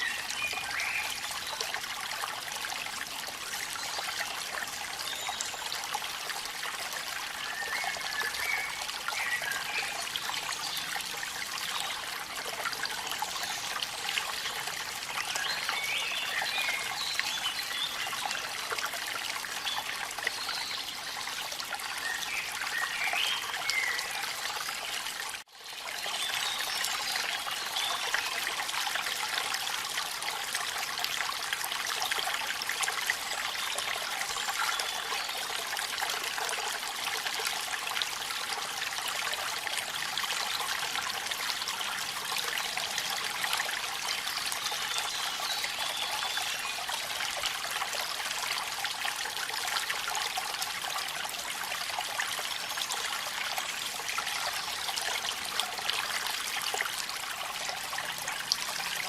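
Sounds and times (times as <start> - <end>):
waterfall rushing and trickling: 0.0 - 59.0.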